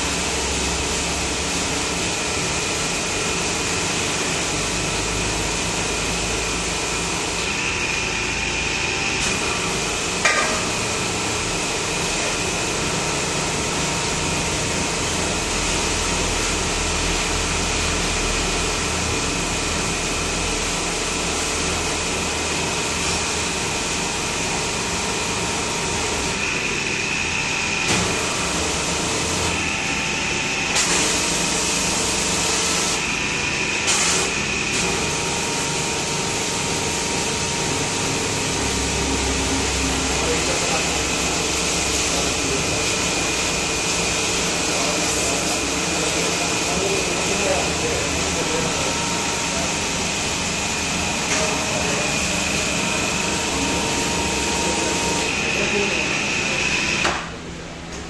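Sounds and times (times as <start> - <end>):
workshop machine noise: 0.0 - 58.0.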